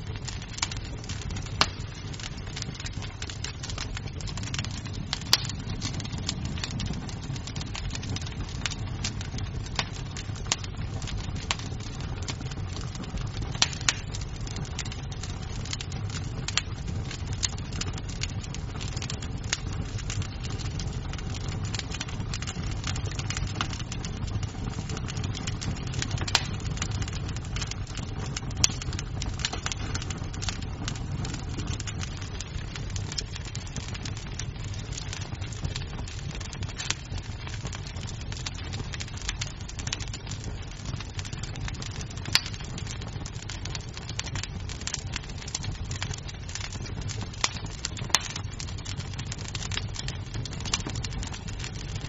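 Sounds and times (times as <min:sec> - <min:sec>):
burning wood popping and snapping: 0:00.0 - 0:52.0
low rumble of flames: 0:00.0 - 0:52.0.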